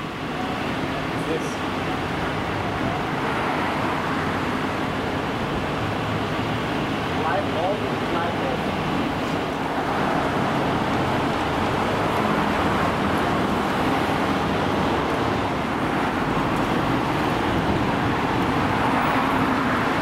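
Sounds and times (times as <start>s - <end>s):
traffic rush: 0.0s - 20.0s.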